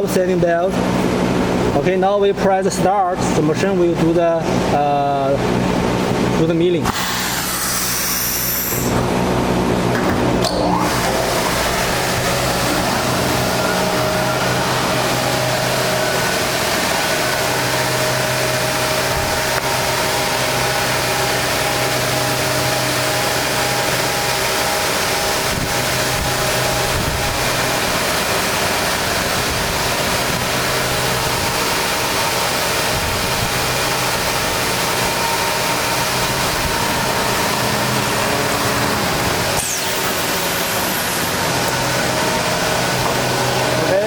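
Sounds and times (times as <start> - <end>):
wood shaper machine humming: 6.9 - 44.0.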